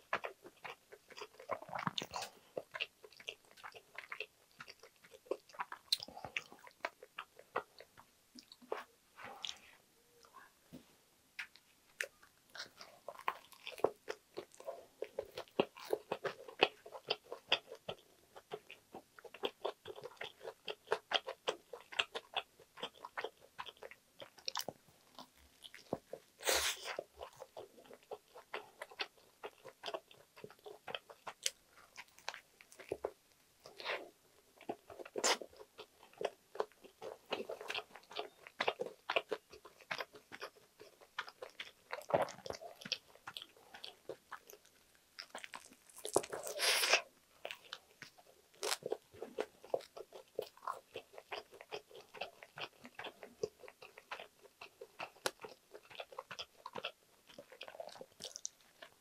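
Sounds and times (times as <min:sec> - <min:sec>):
crunchy chewing of sandwich: 0:00.0 - 0:09.6, 0:11.4 - 0:59.0.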